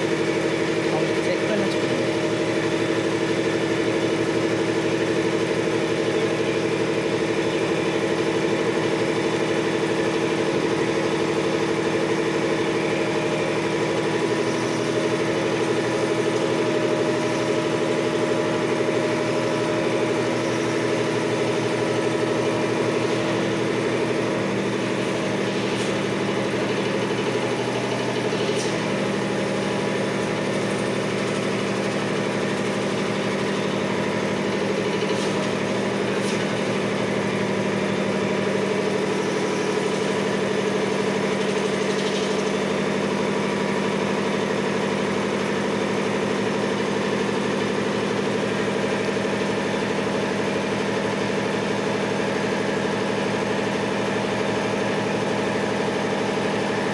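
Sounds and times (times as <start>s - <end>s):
air compressor running: 0.0s - 56.9s.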